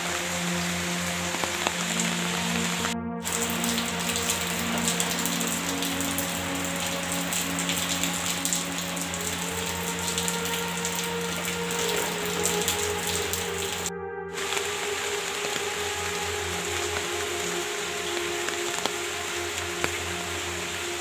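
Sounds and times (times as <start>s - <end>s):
rain falling on leaves: 0.0s - 21.0s.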